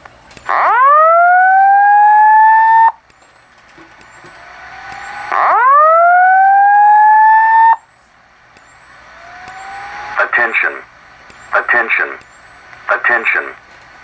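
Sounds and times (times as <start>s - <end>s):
fire alarm whoop tone: 0.4s - 3.3s, 3.9s - 12.6s.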